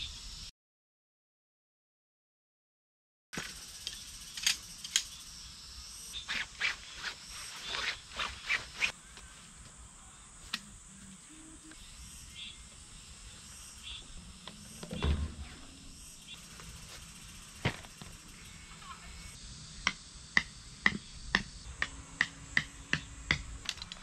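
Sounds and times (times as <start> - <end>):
cicadas buzzing: 0.0 - 0.5, 3.4 - 24.0.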